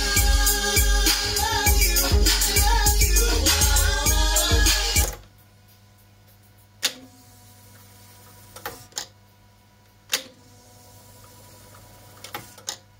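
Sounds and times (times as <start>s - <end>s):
faint tape deck hum: 0.0s - 12.9s.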